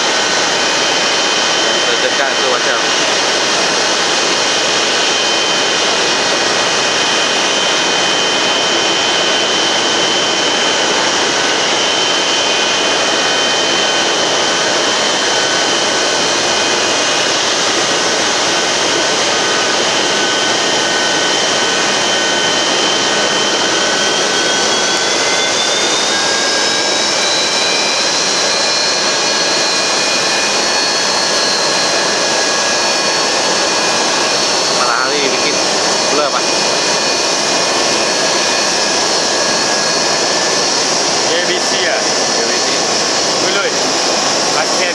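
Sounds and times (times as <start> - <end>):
jet engine whine and roar: 0.0 - 44.9.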